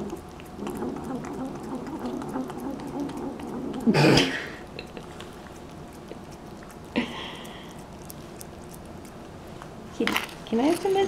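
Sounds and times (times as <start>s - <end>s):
cat licking and chewing food: 0.0s - 11.0s.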